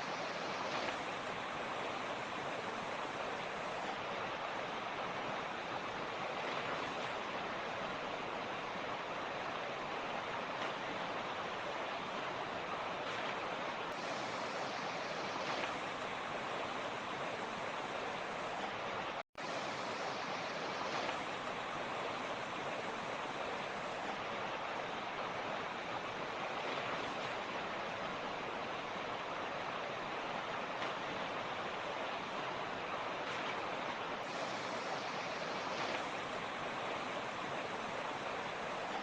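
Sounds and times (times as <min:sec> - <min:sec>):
creek rushing over rocks: 0:00.0 - 0:39.0.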